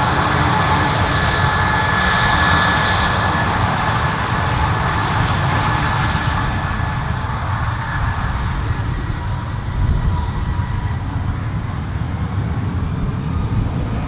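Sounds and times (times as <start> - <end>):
aircraft turbine engines: 0.0 - 14.0.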